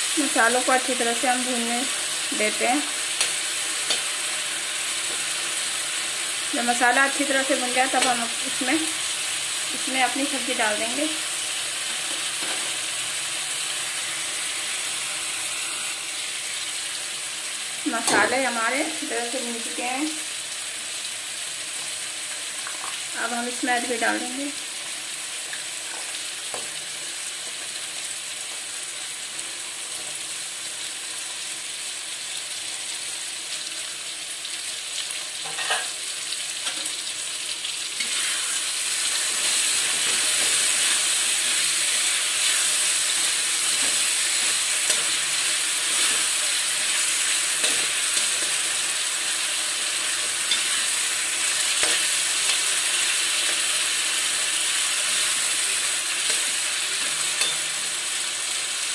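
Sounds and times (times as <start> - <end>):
food sizzling in hot oil: 0.0 - 58.9.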